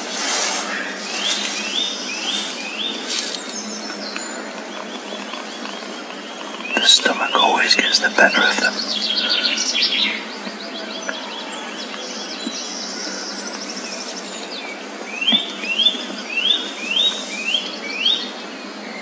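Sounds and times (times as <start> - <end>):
sweeping whistled bird notes: 0.0 - 19.0
wild birds singing: 0.0 - 19.0.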